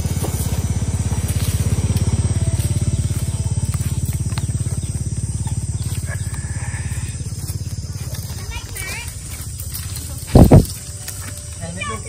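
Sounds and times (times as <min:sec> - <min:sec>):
small engine throbbing: 0:00.0 - 0:12.0.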